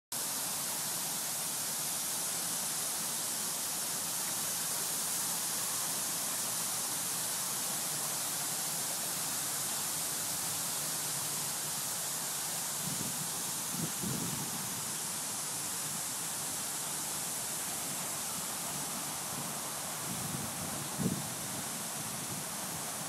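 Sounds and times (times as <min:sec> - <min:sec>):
fountain water rushing: 0:00.1 - 0:23.0.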